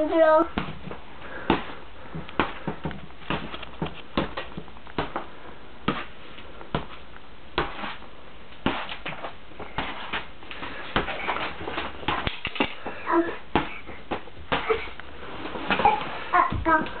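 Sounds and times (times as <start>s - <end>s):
gloves thudding on punching bag: 0.5s - 15.0s.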